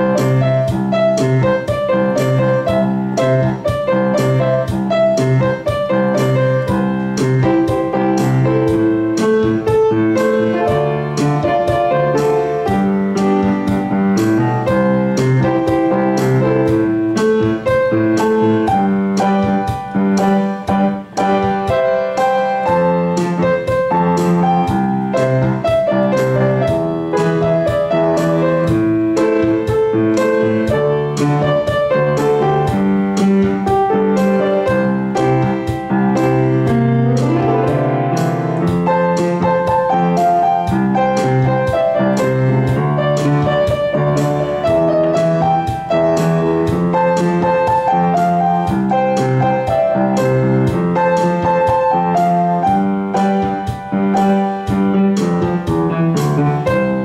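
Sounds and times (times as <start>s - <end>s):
piano playing pop melody: 0.0s - 57.0s.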